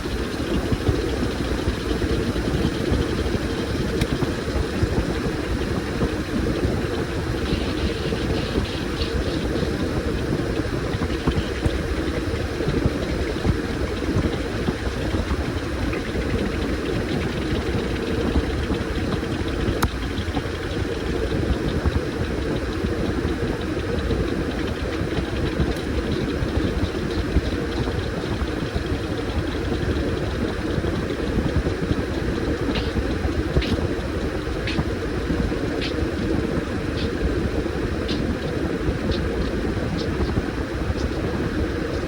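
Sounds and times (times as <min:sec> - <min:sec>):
washing machine running: 0:00.0 - 0:42.0.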